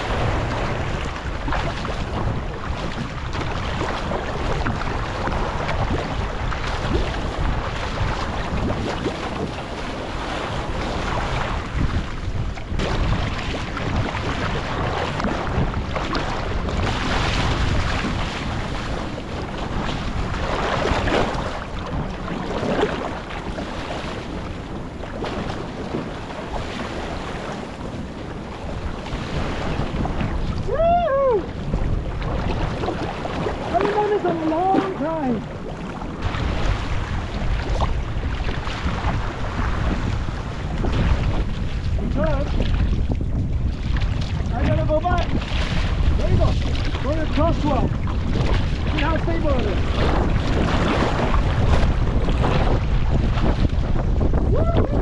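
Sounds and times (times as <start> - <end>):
water splashing along hull: 0.0 - 55.0
wind buffeting microphone: 0.0 - 55.0.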